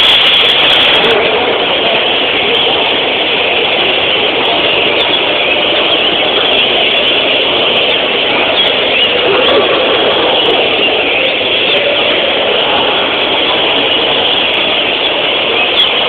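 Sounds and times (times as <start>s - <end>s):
many caged finches singing: 0.0s - 16.0s.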